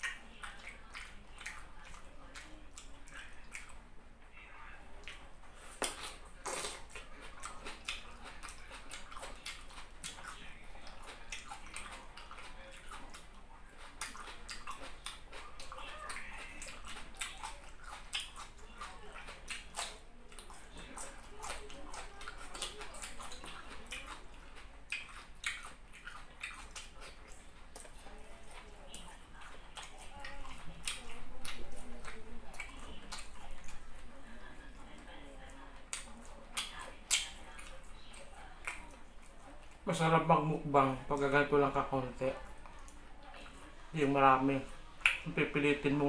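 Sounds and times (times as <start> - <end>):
person chewing with mouth open: 0.0 - 3.8, 5.0 - 46.0.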